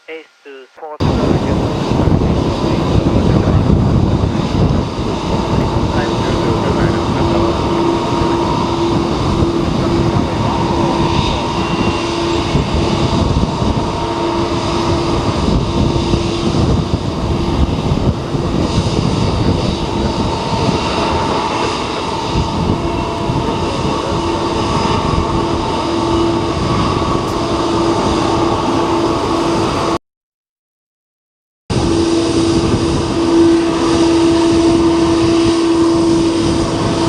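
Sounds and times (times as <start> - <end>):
steady hum: 0.0 - 29.8
gusting wind buffeting microphone: 1.0 - 30.0, 31.7 - 37.0.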